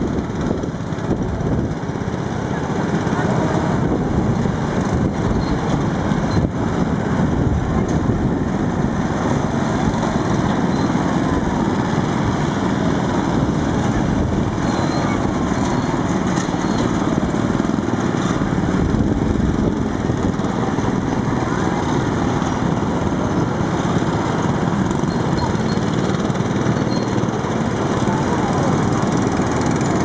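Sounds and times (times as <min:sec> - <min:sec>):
small petrol engines running: 0:00.0 - 0:30.0.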